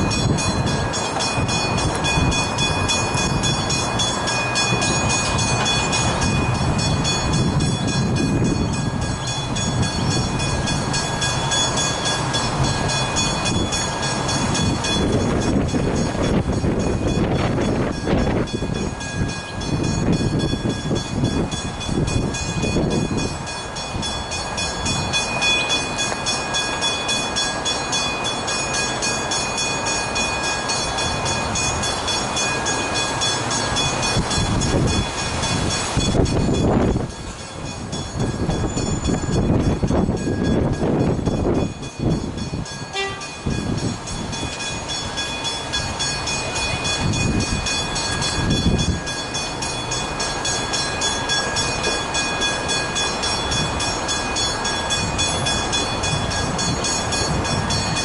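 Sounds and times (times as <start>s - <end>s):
crossing warning bells ringing: 0.0s - 58.0s
train passing rumble: 0.0s - 58.0s.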